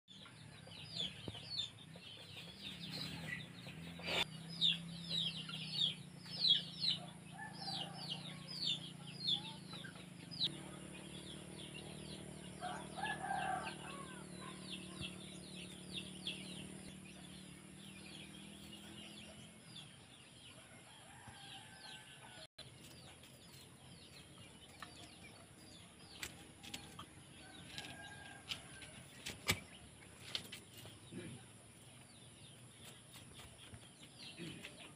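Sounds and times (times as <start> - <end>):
chickens and birds calling: 0.1 - 34.9.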